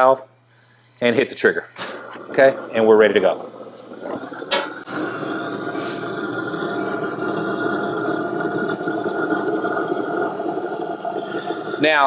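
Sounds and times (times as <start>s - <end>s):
torch flame rushing: 1.0s - 12.0s.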